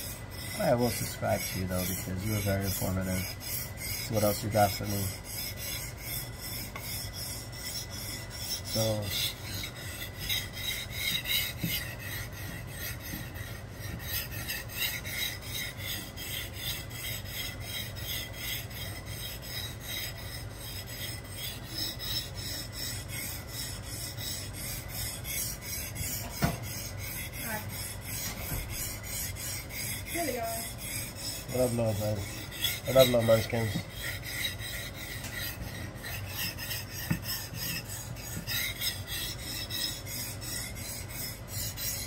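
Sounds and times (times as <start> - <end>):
knife rasping on whetstone: 0.0 - 42.0.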